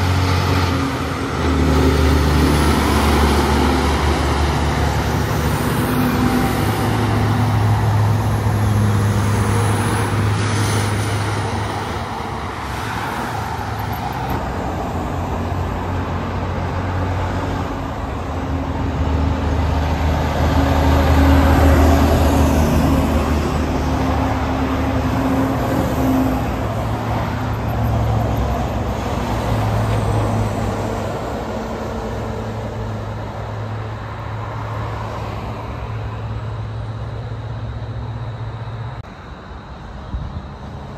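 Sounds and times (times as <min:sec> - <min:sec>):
trucks passing on highway: 0:00.0 - 0:40.9.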